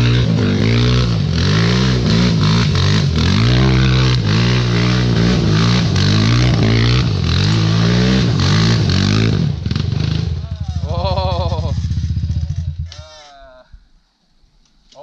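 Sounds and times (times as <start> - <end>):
quad bike engine revving: 0.0 - 13.1.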